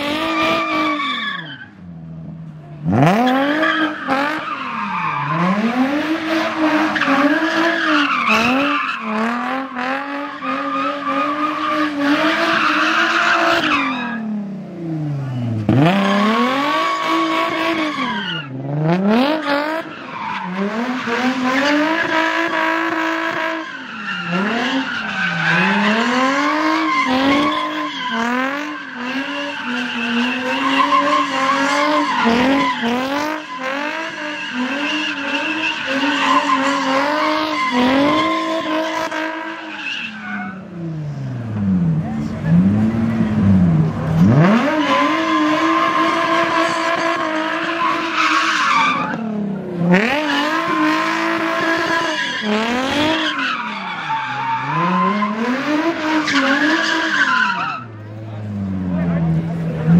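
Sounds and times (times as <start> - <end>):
tires squealing on pavement: 0.0 - 1.9, 2.9 - 59.9
car engine at high revs: 0.0 - 59.9.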